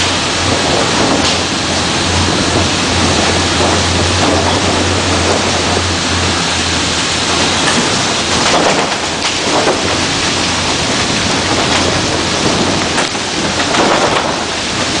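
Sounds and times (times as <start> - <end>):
low steady drone: 0.0 - 14.4
vehicle on wet road rushing: 0.0 - 15.0.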